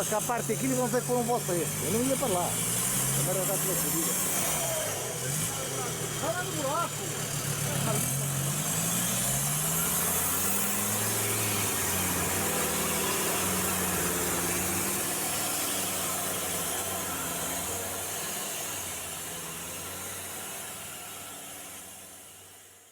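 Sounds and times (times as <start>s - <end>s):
diesel engine under load: 0.0s - 22.9s.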